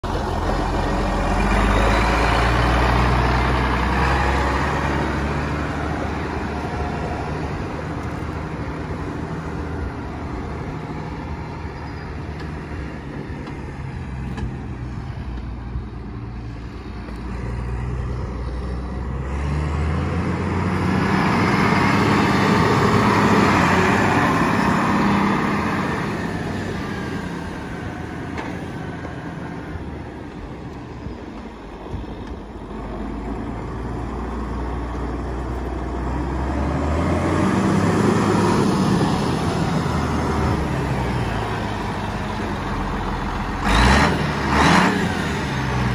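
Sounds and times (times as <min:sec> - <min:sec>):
diesel tractor engine driving: 0:00.0 - 0:45.9.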